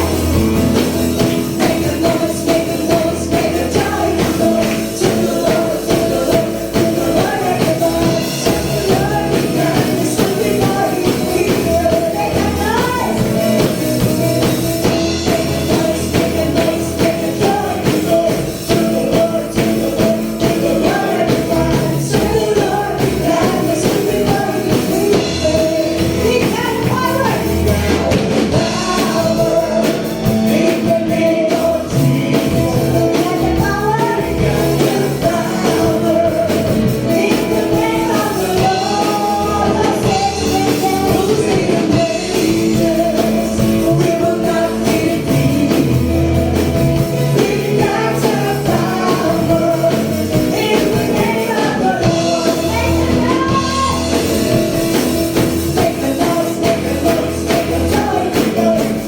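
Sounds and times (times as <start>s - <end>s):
gospel music with singing: 0.0s - 59.0s.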